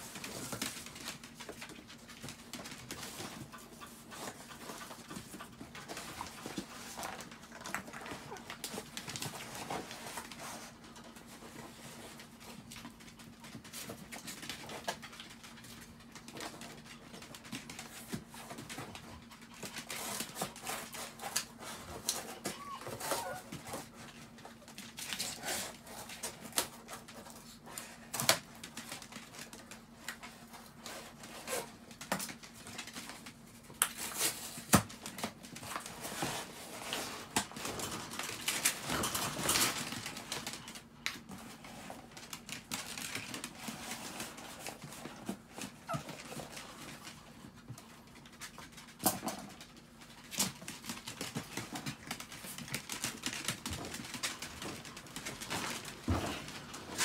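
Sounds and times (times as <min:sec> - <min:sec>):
small dogs scuffling and tapping: 0:00.0 - 0:57.0.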